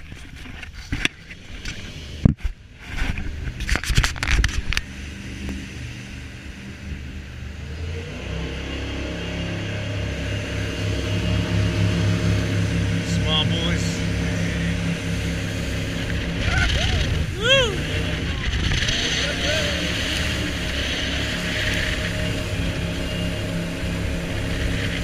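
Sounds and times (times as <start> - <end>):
jet boat engine running: 0.0 - 25.0.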